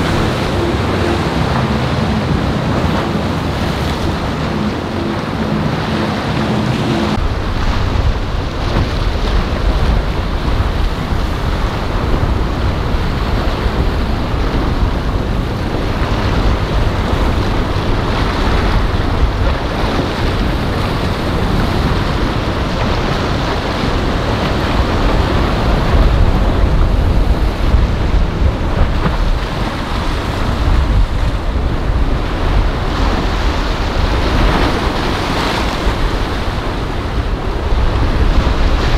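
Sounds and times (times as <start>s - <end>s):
crashing surf: 0.0s - 38.9s
powerboat running at speed: 0.0s - 38.9s
wind buffeting microphone: 0.0s - 38.9s.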